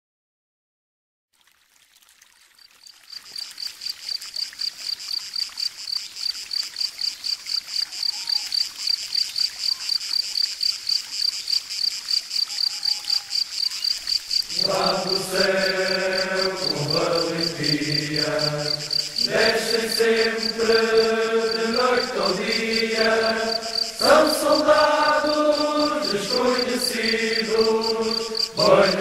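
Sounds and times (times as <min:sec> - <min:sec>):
crickets chirping: 0:02.6 - 0:29.0.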